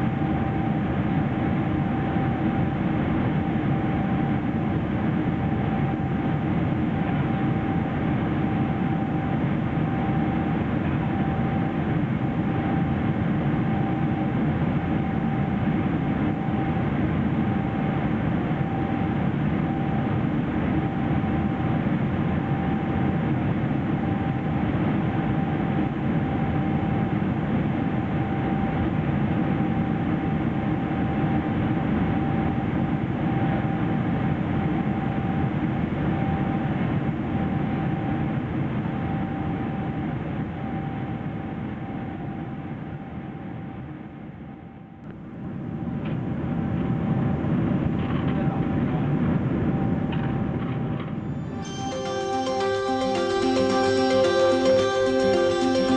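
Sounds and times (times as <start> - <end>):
thin steady whine: 0.0 - 55.9.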